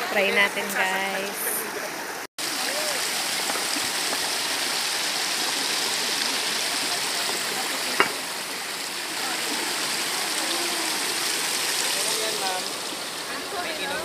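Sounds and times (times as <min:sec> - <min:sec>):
stream trickling over rocks: 0:00.6 - 0:14.0.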